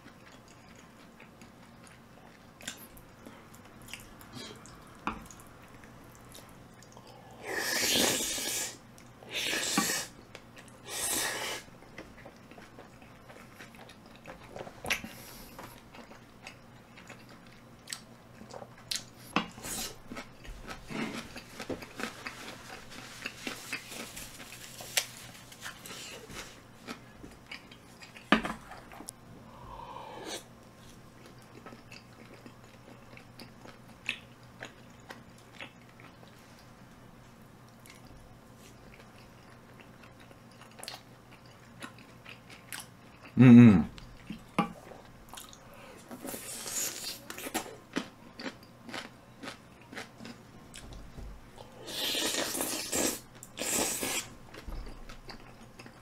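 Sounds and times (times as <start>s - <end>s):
person chewing food: 0.0s - 36.8s, 37.6s - 43.4s, 44.0s - 56.0s.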